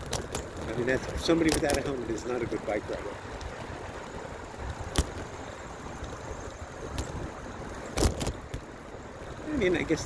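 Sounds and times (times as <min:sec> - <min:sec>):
bicycle tyres rolling on path: 0:00.0 - 0:10.0.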